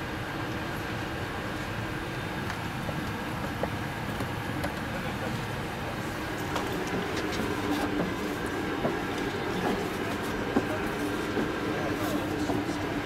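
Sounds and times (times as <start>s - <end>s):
aircraft cabin hum and hiss: 0.0s - 13.0s.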